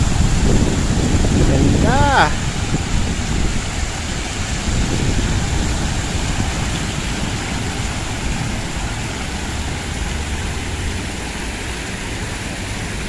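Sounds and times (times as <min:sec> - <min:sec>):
fountain water splashing: 0:00.0 - 0:13.0
low uneven rumble: 0:00.0 - 0:13.0.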